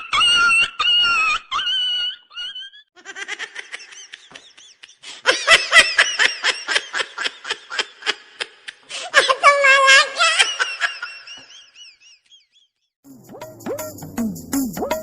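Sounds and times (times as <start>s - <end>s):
high-pitched laughter: 0.0s - 12.5s.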